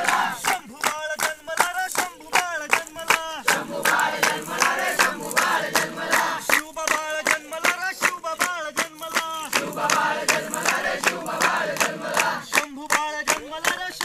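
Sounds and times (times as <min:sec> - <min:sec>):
group singing in unison: 0:00.0 - 0:02.1, 0:03.1 - 0:14.0
hands clapping rhythmically: 0:00.0 - 0:14.0.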